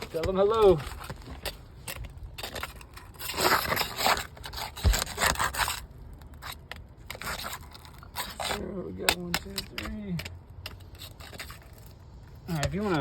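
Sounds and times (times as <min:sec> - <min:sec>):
scraping on roof shingles: 0:00.0 - 0:11.9.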